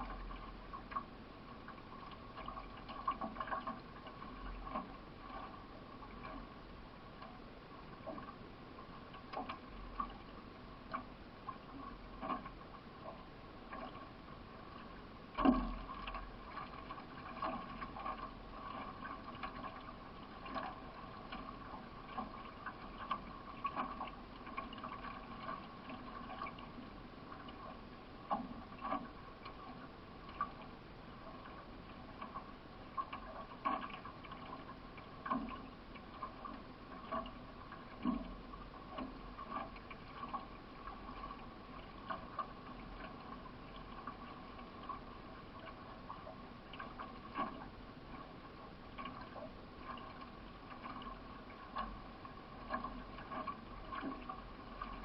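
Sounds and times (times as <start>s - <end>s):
paddle strokes splashing: 0.0s - 55.0s.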